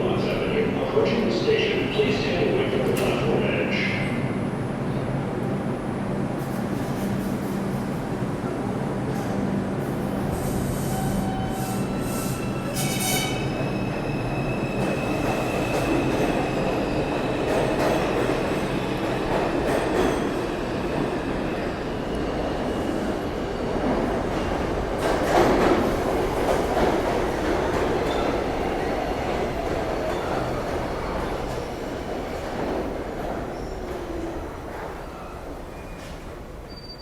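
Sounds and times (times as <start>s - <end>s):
subway train rumbling on rails: 0.0s - 37.0s.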